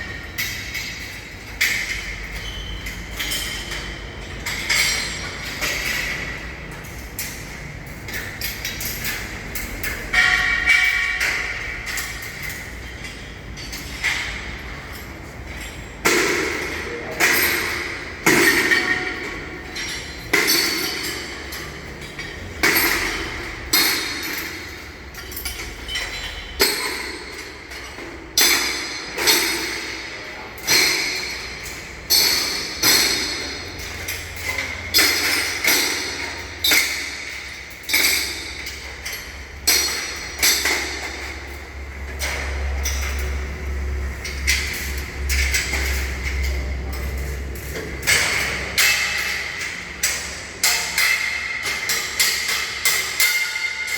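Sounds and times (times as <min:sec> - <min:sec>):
metallic scaffolding clanks: 0:00.0 - 0:53.9.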